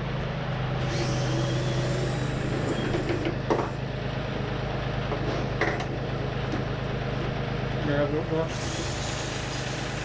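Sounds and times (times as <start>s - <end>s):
low engine-like hum: 0.0s - 10.0s.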